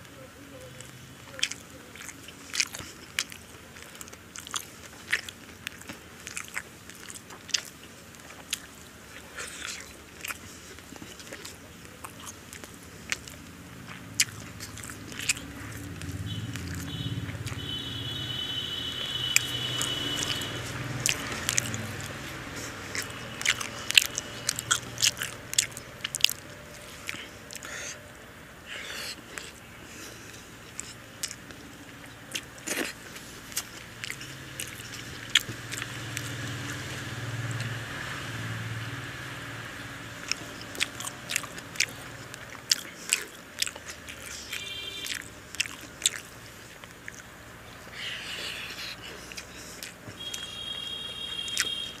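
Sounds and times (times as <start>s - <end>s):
person chewing food: 0.6s - 52.0s
wet mouth clicks and smacks: 0.8s - 17.6s, 19.3s - 27.8s, 30.3s - 37.8s, 40.2s - 50.8s, 51.5s - 52.0s.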